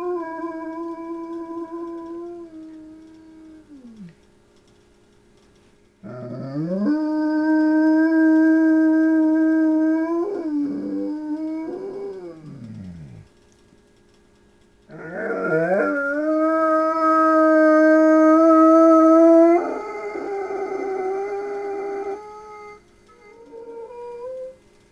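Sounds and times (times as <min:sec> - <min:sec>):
large dog howling: 0:00.0 - 0:04.1, 0:06.0 - 0:13.3, 0:14.9 - 0:24.6.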